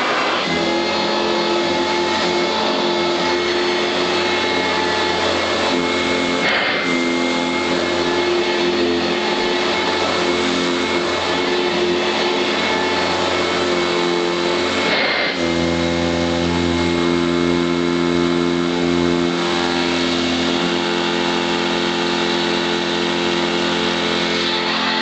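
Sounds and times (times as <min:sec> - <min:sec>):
vacuum cleaner whine: 0:00.0 - 0:25.0.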